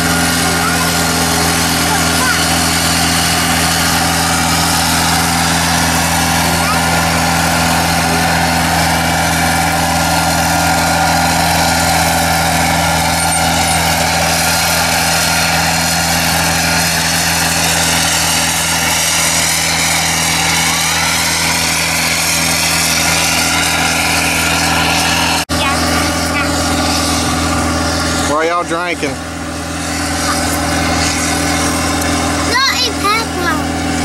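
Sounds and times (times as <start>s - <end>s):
sprayer engine running: 0.0s - 34.0s.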